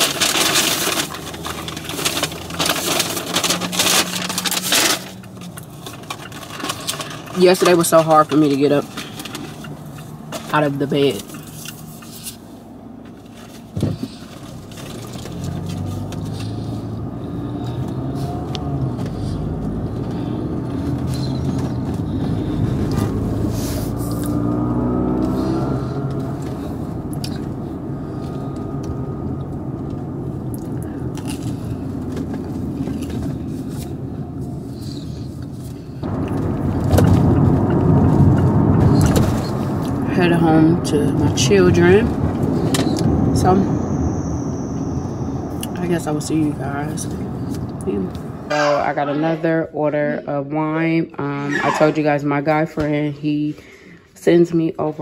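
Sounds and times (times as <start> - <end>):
car engine: 0.0 - 55.0
road noise: 0.0 - 55.0.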